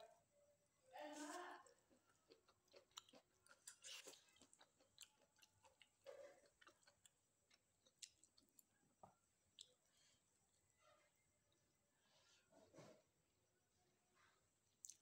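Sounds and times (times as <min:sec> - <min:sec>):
soft chewing: 0:01.1 - 0:13.2, 0:14.0 - 0:15.0.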